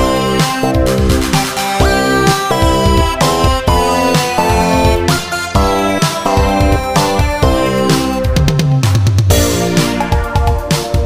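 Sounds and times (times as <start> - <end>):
electronic keyboard chords: 0.0 - 11.0
steady beat: 0.0 - 11.0.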